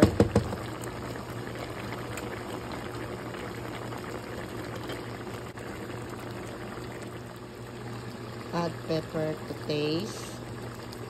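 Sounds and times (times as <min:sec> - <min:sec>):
curry bubbling and popping: 0:00.0 - 0:11.0.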